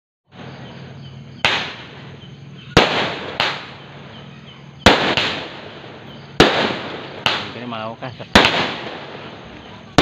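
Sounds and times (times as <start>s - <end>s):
fireworks bangs: 0.3s - 10.0s.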